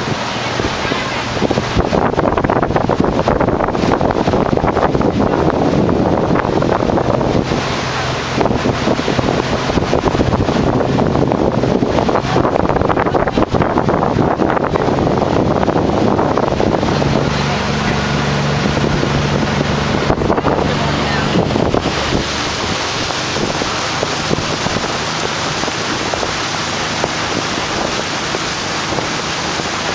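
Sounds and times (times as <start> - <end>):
motorboat engine hum: 0.0 - 29.9
water rushing along hull: 0.0 - 29.9
wind buffeting microphone: 0.0 - 29.9.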